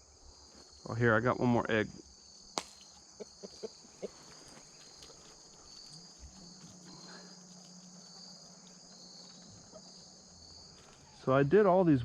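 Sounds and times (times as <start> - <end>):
crickets chirring: 0.0 - 12.0
faint low hum: 0.0 - 12.0.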